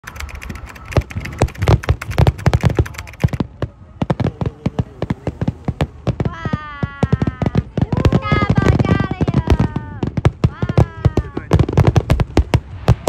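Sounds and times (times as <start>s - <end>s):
firework shells bursting: 0.0s - 13.0s
crackling firework pops: 0.3s - 13.0s.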